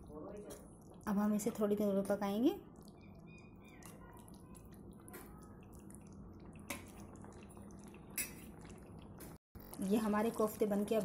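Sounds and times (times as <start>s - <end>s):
thick gravy bubbles popping: 0.3s - 11.0s.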